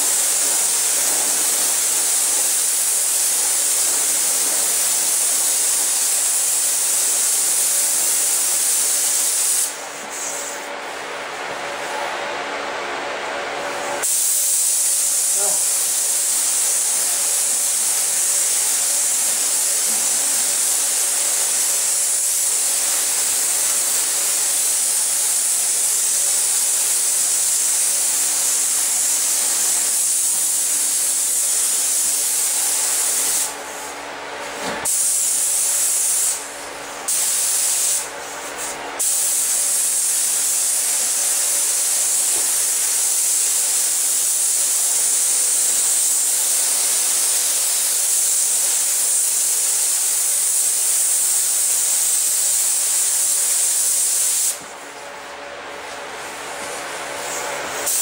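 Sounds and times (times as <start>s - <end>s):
paint spray gun hissing: 0.0s - 10.6s, 14.0s - 33.6s, 34.8s - 54.8s, 57.1s - 58.0s.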